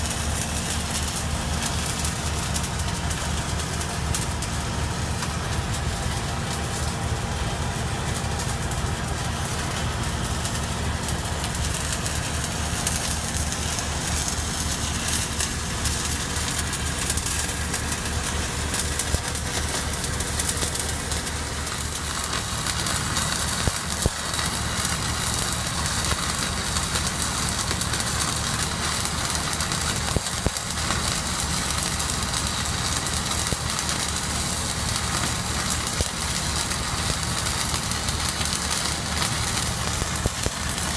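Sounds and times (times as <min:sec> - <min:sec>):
crackle of arc welding: 0:00.0 - 0:40.9
engine idling: 0:00.1 - 0:40.9.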